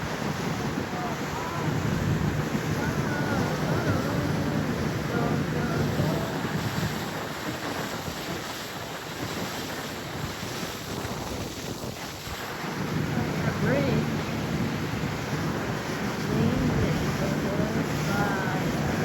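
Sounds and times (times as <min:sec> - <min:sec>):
motorboat engine drone: 0:00.0 - 0:19.0
rushing water: 0:00.0 - 0:19.0
wind buffeting microphone: 0:00.0 - 0:19.0.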